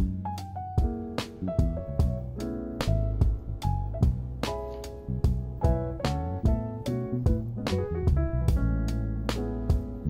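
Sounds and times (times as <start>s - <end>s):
low bass line: 0.0s - 10.0s.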